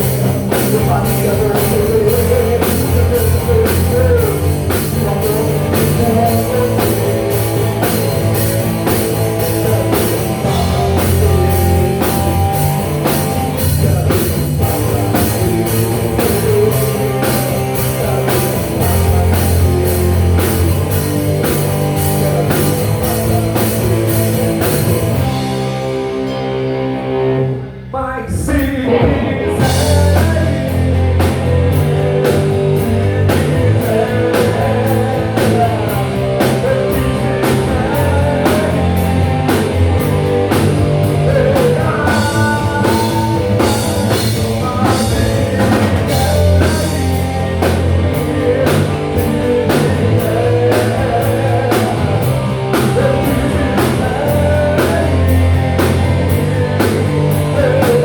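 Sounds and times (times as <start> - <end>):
person singing: 0.0 - 25.2, 27.4 - 58.0
live rock band playing: 0.0 - 58.0.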